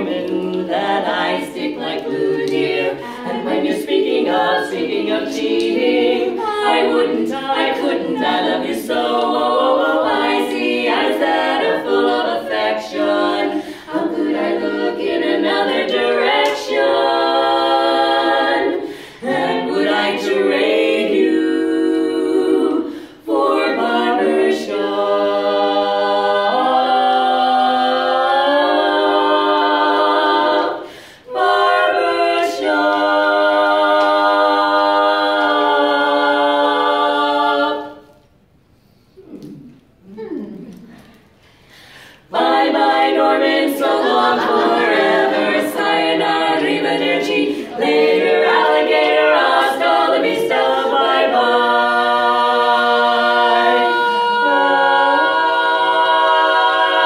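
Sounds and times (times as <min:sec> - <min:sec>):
women singing a cappella harmony: 0:00.0 - 0:38.6, 0:39.2 - 0:57.0.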